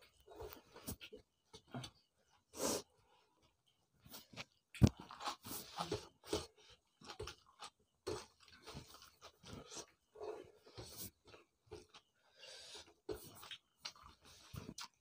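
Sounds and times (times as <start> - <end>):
people chewing food: 0.0 - 15.0.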